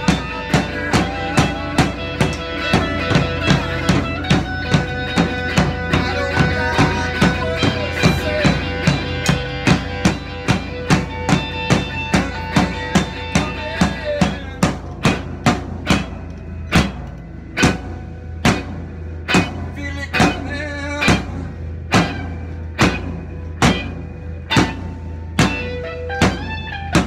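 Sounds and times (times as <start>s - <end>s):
drum kit rock beat: 0.0s - 27.0s
electric guitar: 0.0s - 27.0s.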